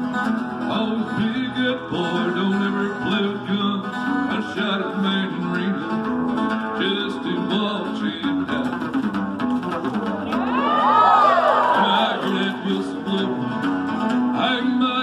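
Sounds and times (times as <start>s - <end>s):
strummed acoustic guitar: 0.0s - 15.0s
man singing country song: 0.1s - 9.2s, 11.6s - 15.0s.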